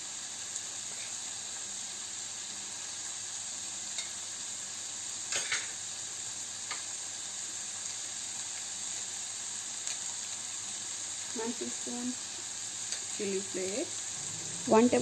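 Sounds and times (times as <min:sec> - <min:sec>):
chicken and onion sizzling in a pan: 0:00.0 - 0:15.0.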